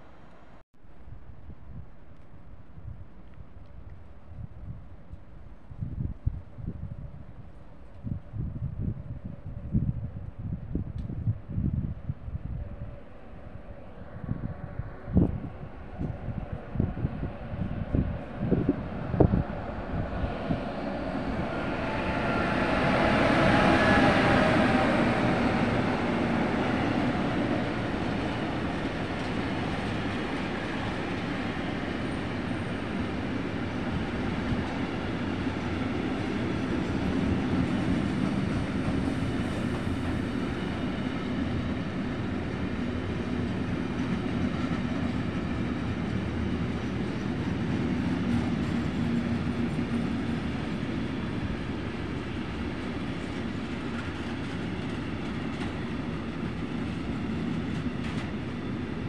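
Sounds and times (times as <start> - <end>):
freight train wheels rumbling on rails: 3.5 - 59.0
electric locomotive whine: 3.6 - 59.0.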